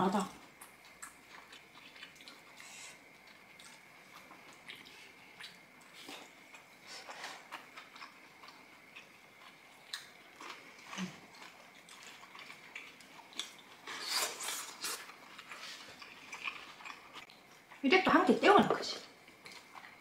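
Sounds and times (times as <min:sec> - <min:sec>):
people chewing food: 0:00.0 - 0:17.8, 0:19.0 - 0:20.0.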